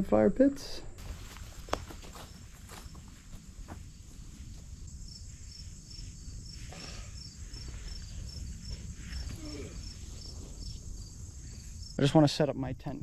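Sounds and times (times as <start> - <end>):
crickets chirping: 0.8 - 13.0
faint rustles: 1.0 - 11.8
high insect drone: 1.0 - 13.0.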